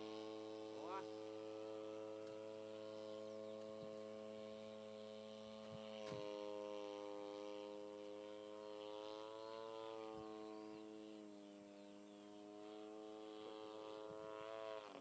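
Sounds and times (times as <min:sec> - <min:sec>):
model plane engine droning overhead: 0:00.0 - 0:15.0.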